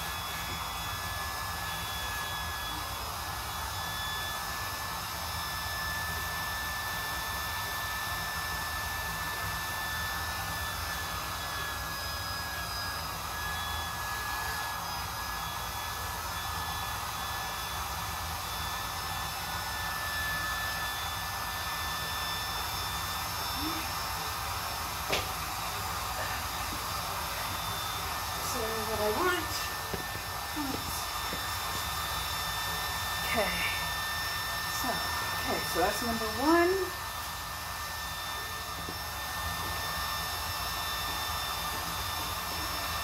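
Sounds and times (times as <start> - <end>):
electric air pump whining: 0.0 - 43.0.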